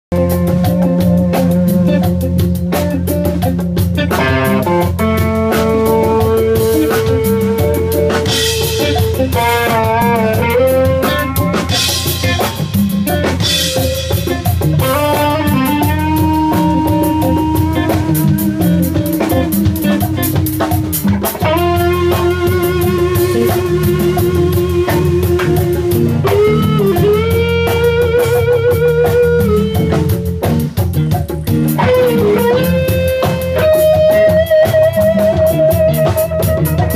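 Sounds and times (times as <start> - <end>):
bass: 0.0 - 36.9
drum kit: 0.1 - 36.9
electric guitar lead: 0.1 - 36.9
percussion: 0.1 - 36.9.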